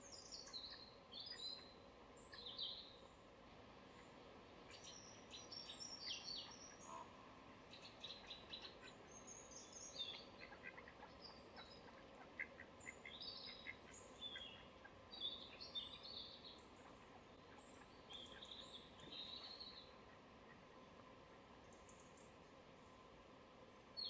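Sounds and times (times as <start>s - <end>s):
background hiss: 0.0s - 24.0s
songbirds chirping and trilling: 0.0s - 24.0s.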